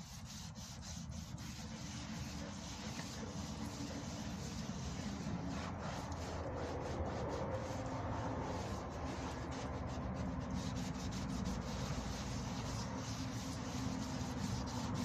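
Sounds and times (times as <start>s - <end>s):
sandpaper rubbing on car panel: 0.0s - 15.0s.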